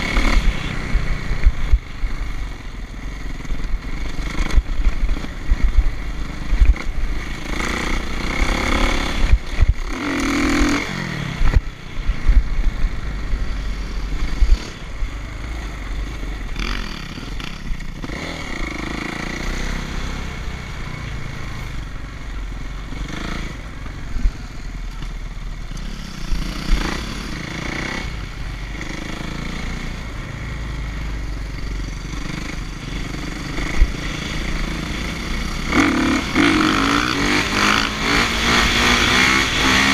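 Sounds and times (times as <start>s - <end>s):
dirt bike engine revving: 0.0s - 2.4s, 3.2s - 20.6s, 25.8s - 30.0s, 31.6s - 39.9s.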